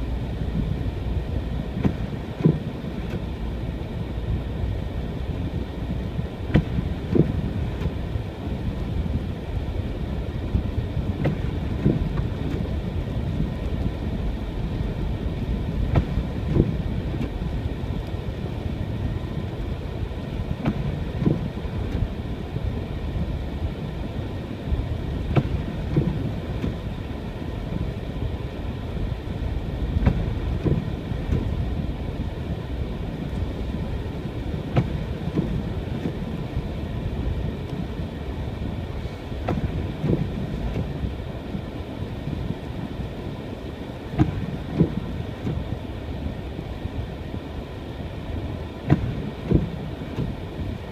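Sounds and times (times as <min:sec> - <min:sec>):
car engine and tyres rumbling: 0:00.0 - 0:50.9.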